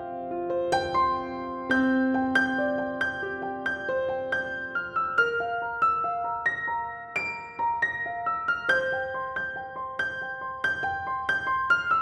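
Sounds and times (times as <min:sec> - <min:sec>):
piano-like keyboard melody: 0:00.0 - 0:12.0.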